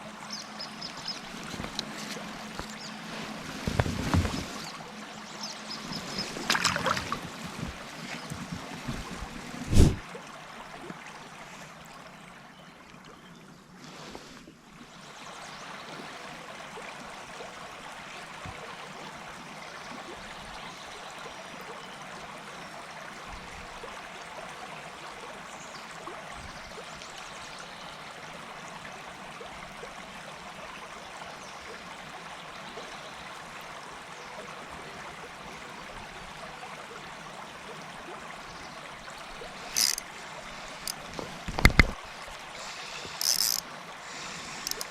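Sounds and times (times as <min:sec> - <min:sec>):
river water flowing: 0:00.0 - 0:13.0, 0:13.6 - 0:44.9.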